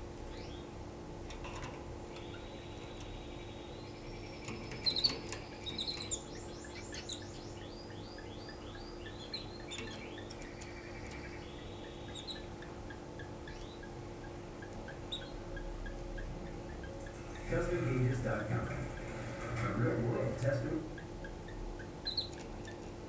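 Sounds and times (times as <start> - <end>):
canary singing: 0.3 - 0.8, 2.1 - 23.0.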